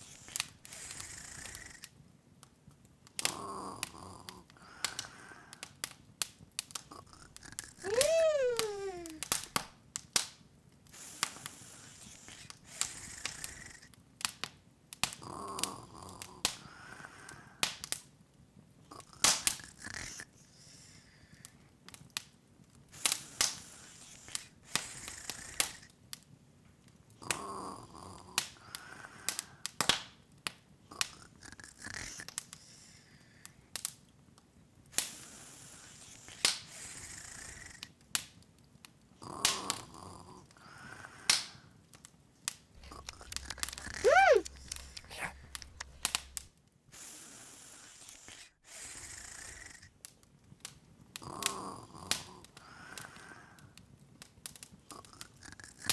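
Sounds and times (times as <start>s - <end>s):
open fire crackling and popping: 0.0s - 20.3s, 21.1s - 36.7s, 37.6s - 40.3s, 40.9s - 46.6s, 50.0s - 55.9s.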